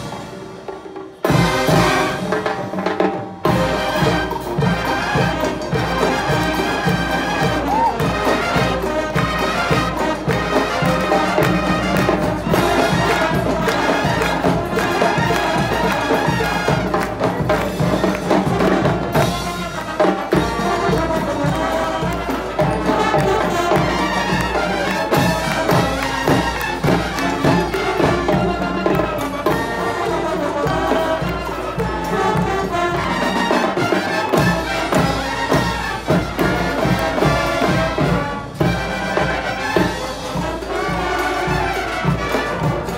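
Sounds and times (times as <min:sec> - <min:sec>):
marching band brass: 0:00.0 - 0:42.9
steady drum beat: 0:00.0 - 0:42.9.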